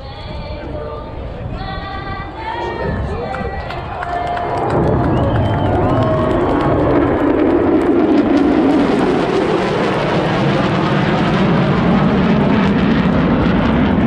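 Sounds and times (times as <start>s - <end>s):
aircraft engines passing overhead: 0.0s - 14.0s.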